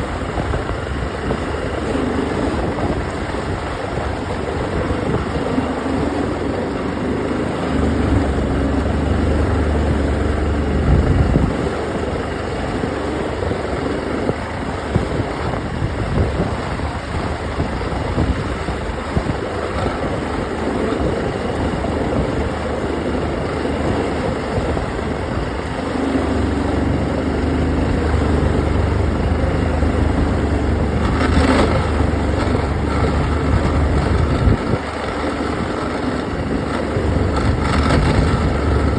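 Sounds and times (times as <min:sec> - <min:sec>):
deeper drone: 0:00.0 - 0:38.9
outboard motor grinding: 0:00.0 - 0:38.9.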